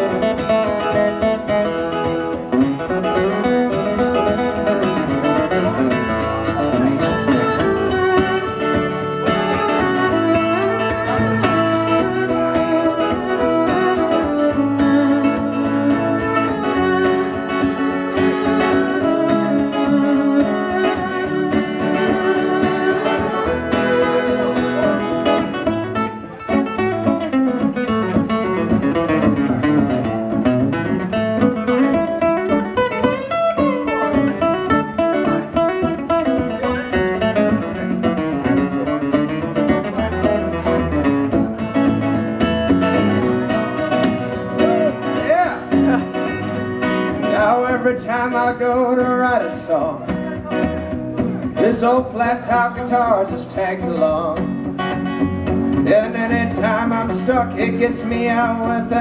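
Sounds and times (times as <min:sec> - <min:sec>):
fiddle playing lead: 0:00.0 - 0:48.4
acoustic guitars strumming: 0:00.0 - 0:59.0.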